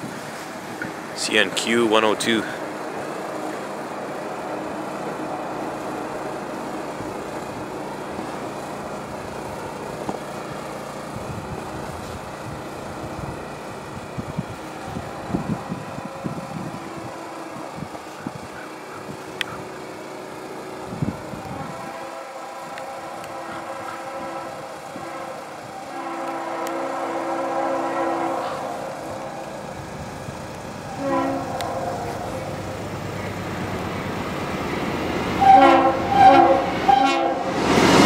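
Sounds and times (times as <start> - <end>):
diesel locomotive drone: 0.0 - 38.0.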